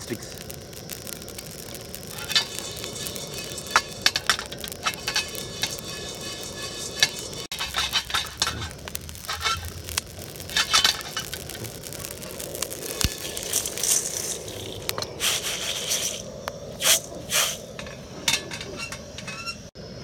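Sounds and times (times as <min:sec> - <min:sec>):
spices crackling in hot pan: 0:00.0 - 0:19.7.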